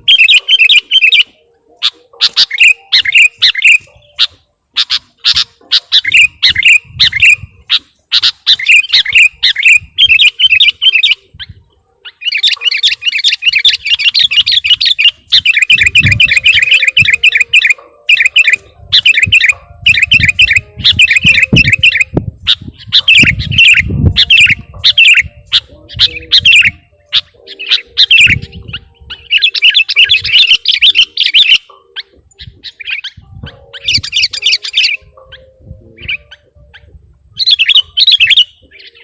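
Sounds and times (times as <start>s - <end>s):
bulbul singing: 0.0s - 39.0s.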